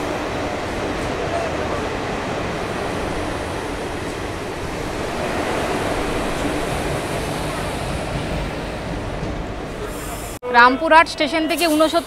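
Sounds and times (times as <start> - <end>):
train rolling: 0.0 - 10.4.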